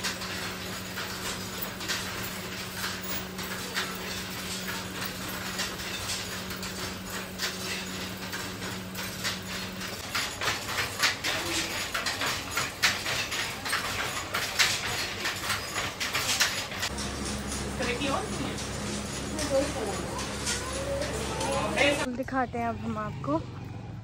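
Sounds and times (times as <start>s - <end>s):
wooden loom clacking: 0.0s - 22.1s.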